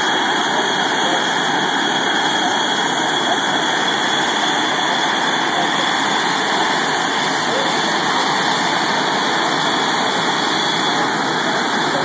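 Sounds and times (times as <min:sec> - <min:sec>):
jet engines with high whine: 0:00.0 - 0:12.0.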